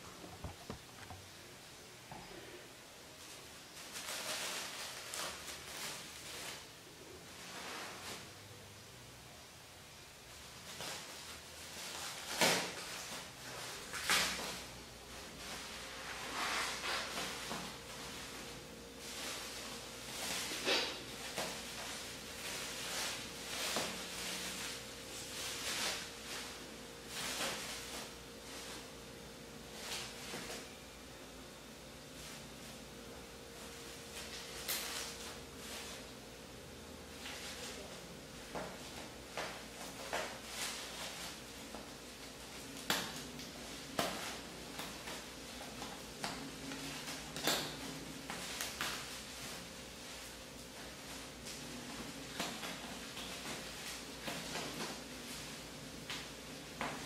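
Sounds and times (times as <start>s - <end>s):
bubble wrap crinkling: 3.2s - 8.4s, 10.5s - 31.2s, 32.0s - 57.0s.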